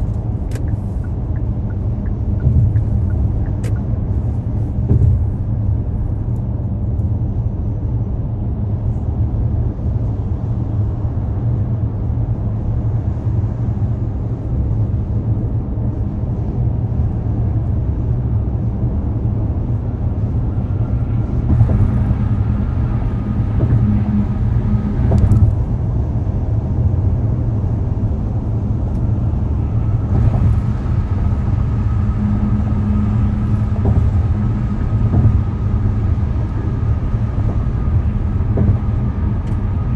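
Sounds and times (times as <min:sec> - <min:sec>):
vehicle rumbling: 0:00.0 - 0:39.9.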